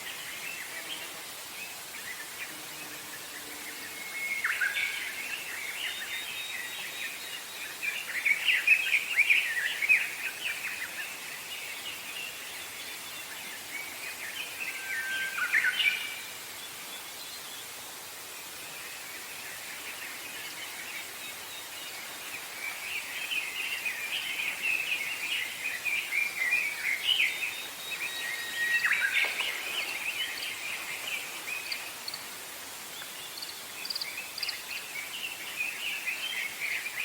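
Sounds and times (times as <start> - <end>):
forest songbirds singing: 0.0 - 17.8, 18.6 - 37.0
steady background hiss: 0.0 - 37.0.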